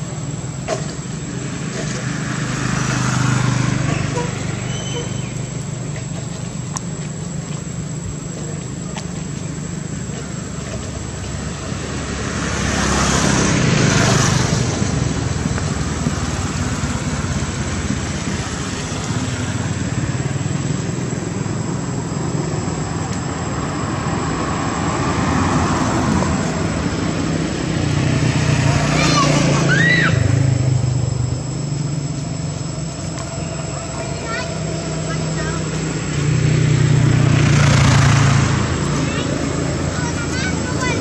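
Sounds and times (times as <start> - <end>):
vehicle passing close: 0.0 - 6.0, 9.7 - 41.0
traffic engine hum: 0.0 - 41.0.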